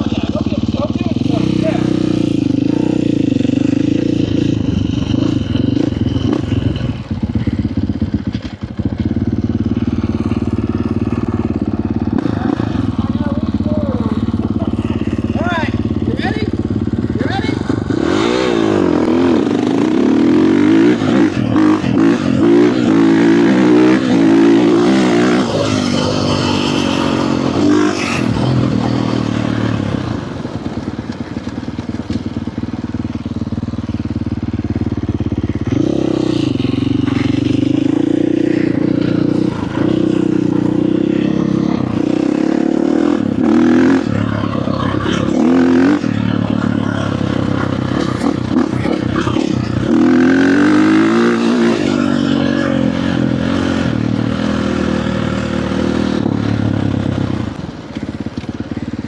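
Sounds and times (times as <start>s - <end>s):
dirt bike engine revving: 0.0s - 58.2s.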